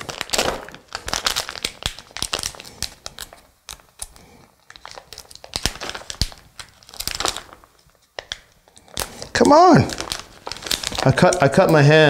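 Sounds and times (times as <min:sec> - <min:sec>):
plastic package crinkling: 0:00.0 - 0:12.0.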